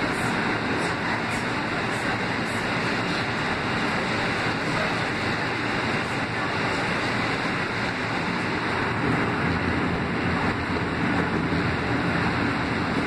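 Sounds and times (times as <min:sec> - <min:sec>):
subway train in tunnel: 0:00.0 - 0:13.0
wheels roaring on rail: 0:00.0 - 0:13.0.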